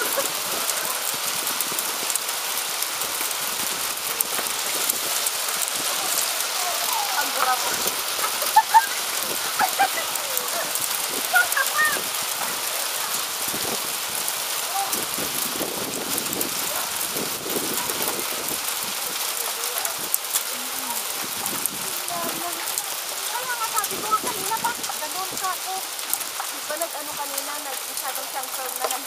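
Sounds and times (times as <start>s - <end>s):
hailstones ticking: 0.0s - 29.0s
rain hissing: 0.0s - 29.0s.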